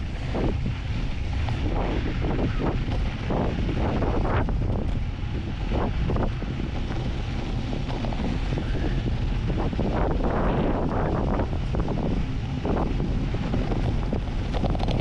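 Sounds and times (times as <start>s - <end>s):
bike bumps and rattles: 0.0s - 15.0s
wind buffeting microphone: 0.0s - 15.0s.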